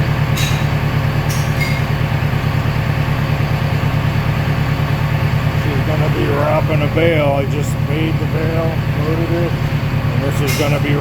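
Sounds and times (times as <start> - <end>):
baler machinery humming: 0.0 - 11.0.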